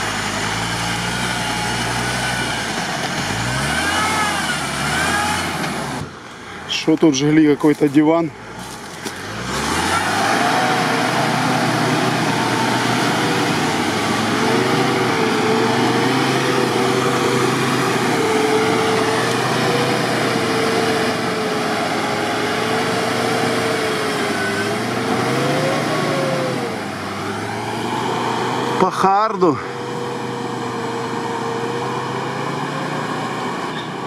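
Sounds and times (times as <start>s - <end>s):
vehicle engine revving under load: 0.0s - 6.6s, 7.7s - 34.0s.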